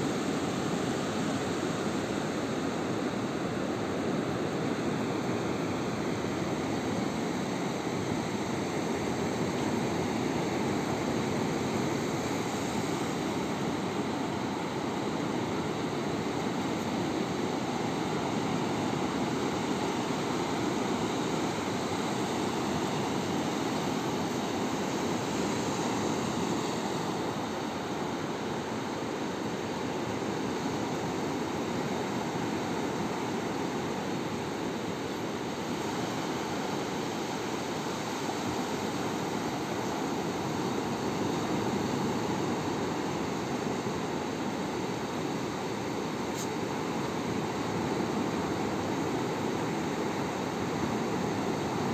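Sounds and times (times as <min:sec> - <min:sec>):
sea surf roaring: 0:00.0 - 0:51.9.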